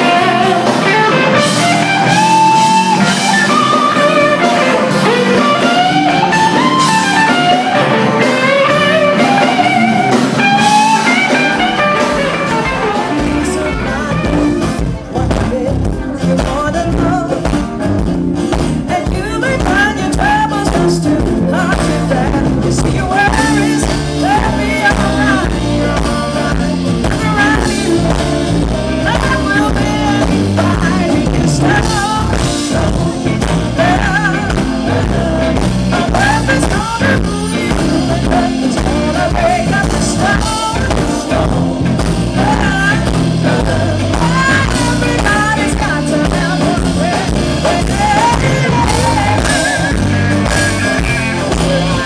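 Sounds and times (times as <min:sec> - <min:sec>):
electric guitar lines: 0:00.0 - 0:15.7, 0:16.3 - 0:52.0
blues band playing: 0:00.0 - 0:52.0.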